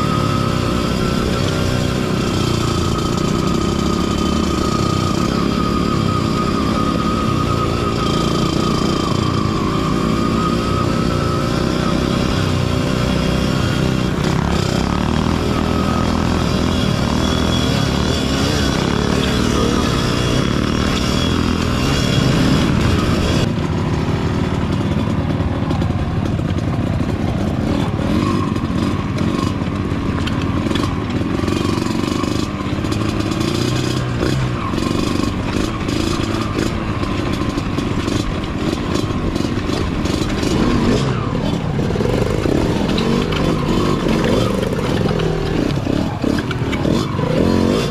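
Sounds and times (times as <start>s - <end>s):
dirt bike engines running: 0.0s - 47.9s.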